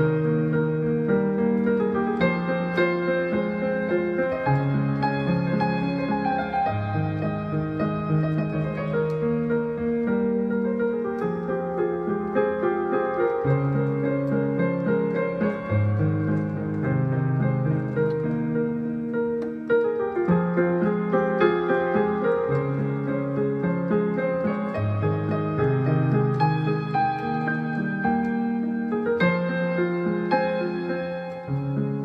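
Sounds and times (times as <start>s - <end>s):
slow solo piano piece: 0.0s - 32.0s.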